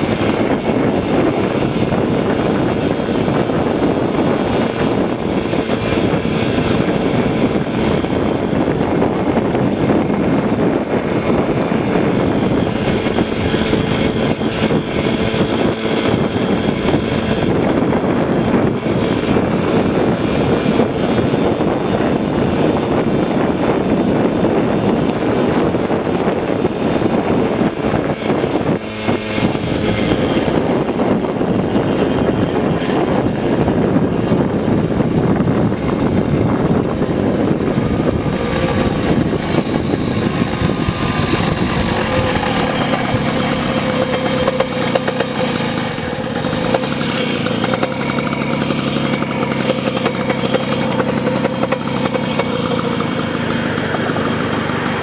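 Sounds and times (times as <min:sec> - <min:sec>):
moped engine running: 0:00.0 - 0:55.0
wind rush: 0:00.0 - 0:55.0.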